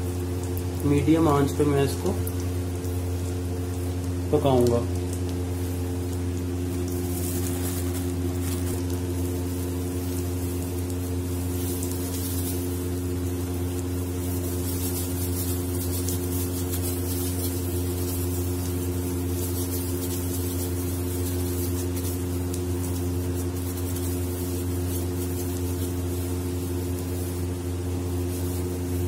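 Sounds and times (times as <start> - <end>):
low mechanical hum: 0.0 - 29.0
patty frying in oil: 0.0 - 29.0.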